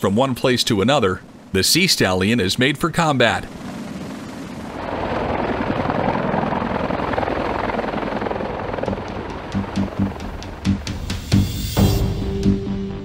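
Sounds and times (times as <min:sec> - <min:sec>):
helicopter rotors chopping: 0:00.0 - 0:12.0
helicopter engine noise: 0:00.7 - 0:12.0.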